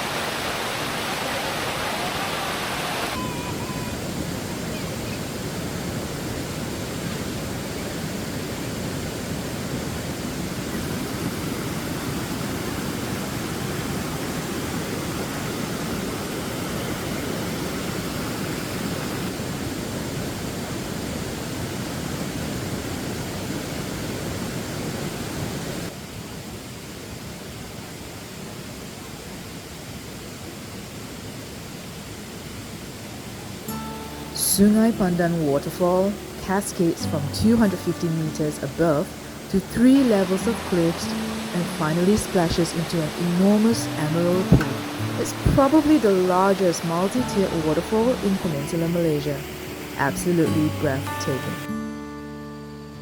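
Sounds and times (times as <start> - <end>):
waterfall rushing: 0.0 - 51.7.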